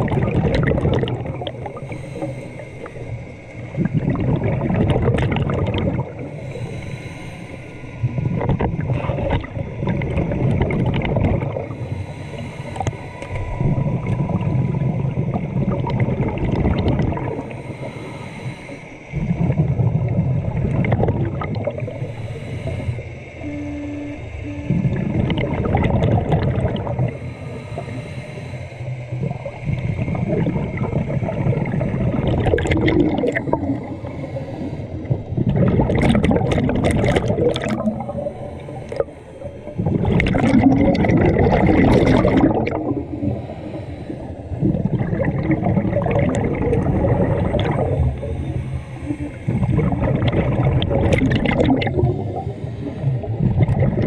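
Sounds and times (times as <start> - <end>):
underwater regulator bubbles: 0.0 - 54.0.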